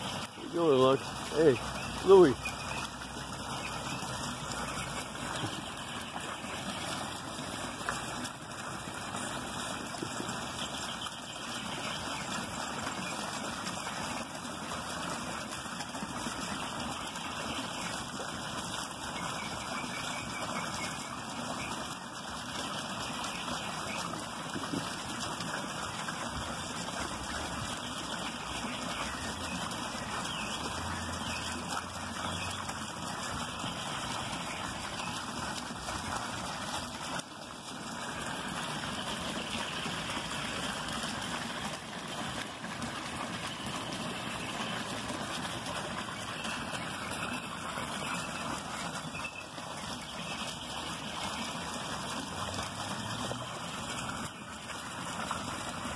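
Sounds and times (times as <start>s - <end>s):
small waterfall splashing: 0.0s - 55.9s.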